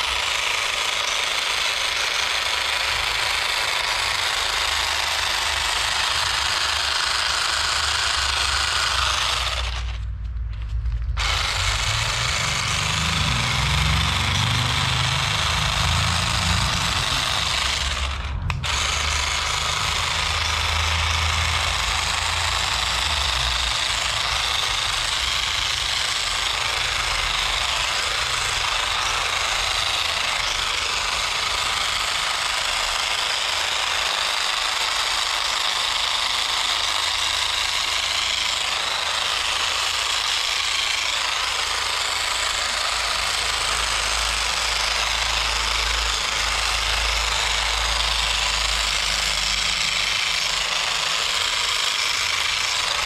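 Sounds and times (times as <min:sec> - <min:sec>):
electric trimmer cutting plants: 0:00.0 - 0:53.0.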